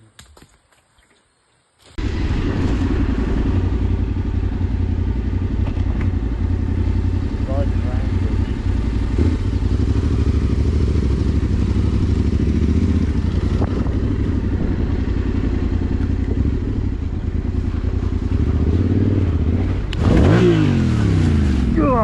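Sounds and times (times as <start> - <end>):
combustion engine running: 2.0 - 22.0.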